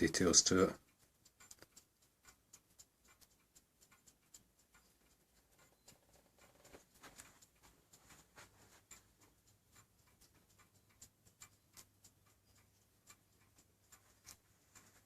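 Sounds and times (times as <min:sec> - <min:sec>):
clock ticking faintly: 0:00.0 - 0:15.0.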